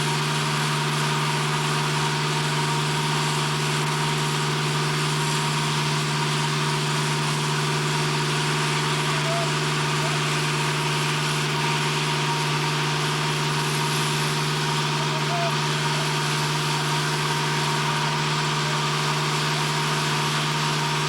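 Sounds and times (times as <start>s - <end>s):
machinery drone: 3.4s - 21.0s.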